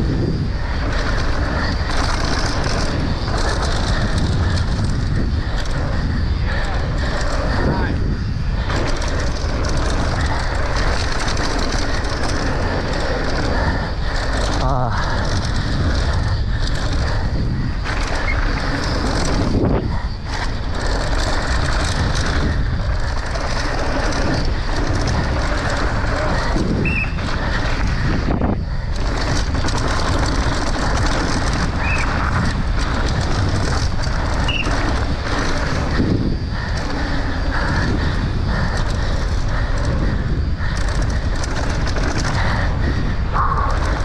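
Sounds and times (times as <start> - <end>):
bike knocks and rattles: 0.0 - 44.0
tyre roar on dirt: 0.0 - 44.0
wind rush on microphone: 0.0 - 44.0.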